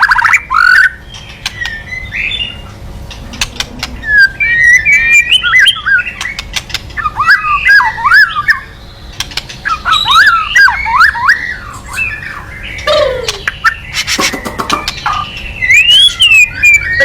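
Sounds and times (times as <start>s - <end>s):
bird whistling calls: 0.0s - 2.6s, 4.0s - 17.0s.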